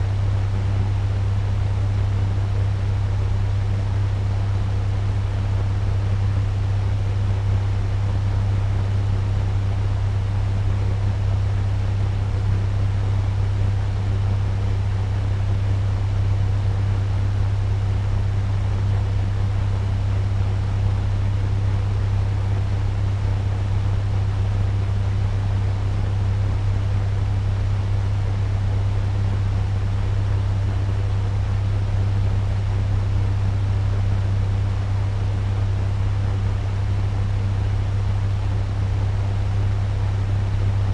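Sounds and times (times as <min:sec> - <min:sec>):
fan running: 0:00.0 - 0:40.9.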